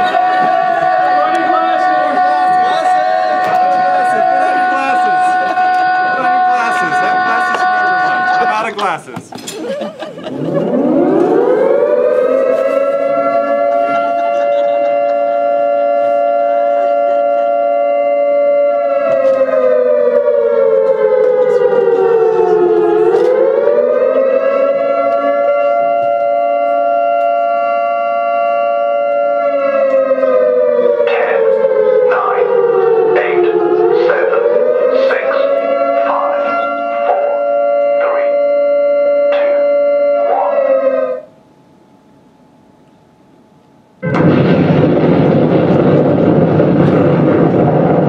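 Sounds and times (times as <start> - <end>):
air-raid siren wailing: 0.0 - 8.9, 9.8 - 41.4, 44.0 - 48.0.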